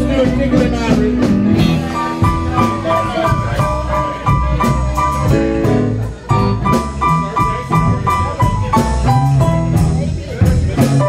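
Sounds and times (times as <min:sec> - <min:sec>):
live blues band playing: 0:00.0 - 0:11.0.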